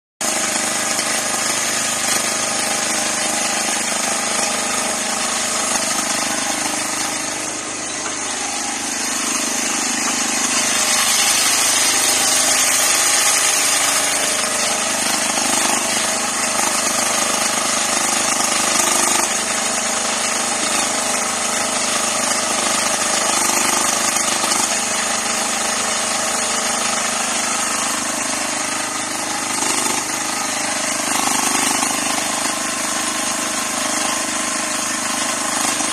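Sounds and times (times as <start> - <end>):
mini excavator engine running: 0.2 - 35.9.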